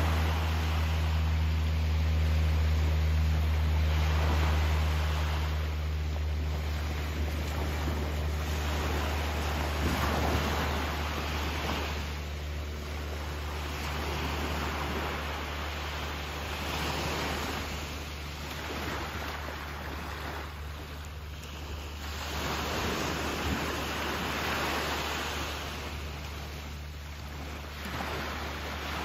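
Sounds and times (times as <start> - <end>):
steady low rumble: 0.0 - 29.0
waves breaking on beach: 0.0 - 29.0.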